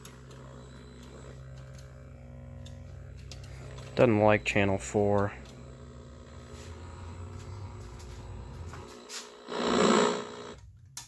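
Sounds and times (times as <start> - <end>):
loud static hiss: 0.0 - 10.6
low buzzing hum: 0.0 - 11.0.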